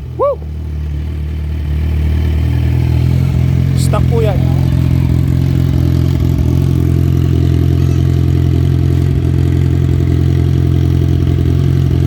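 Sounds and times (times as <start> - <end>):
motorcycle engine idling loudly: 0.0 - 12.0.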